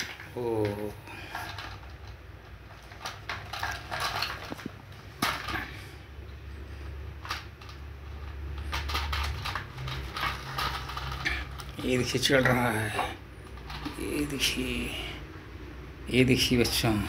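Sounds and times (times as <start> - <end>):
plastic toy rattling on cement: 0.0 - 6.0, 7.2 - 15.0.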